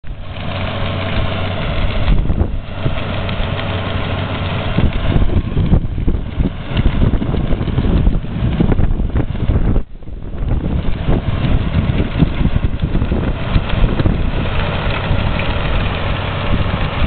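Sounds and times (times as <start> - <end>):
manure spreader spreading: 0.0 - 17.0
tractor engine running: 0.0 - 17.0
wind buffeting microphone: 0.0 - 17.0.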